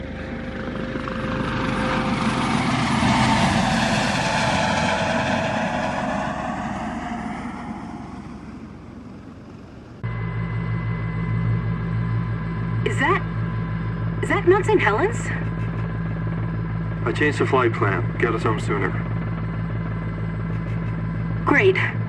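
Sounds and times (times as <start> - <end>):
helicopter flying past: 0.0 - 22.0
low drone: 0.0 - 22.0.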